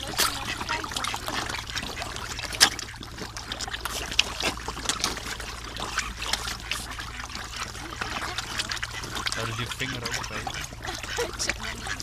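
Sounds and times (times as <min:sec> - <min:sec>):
fish splashing at water surface: 0:00.0 - 0:12.0.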